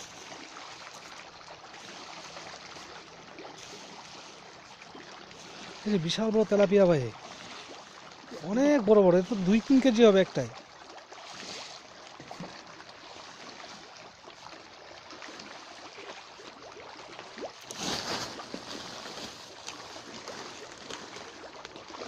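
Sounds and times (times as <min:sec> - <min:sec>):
fish splashing in a pond: 0:00.0 - 0:22.0
water swirling: 0:00.0 - 0:22.0.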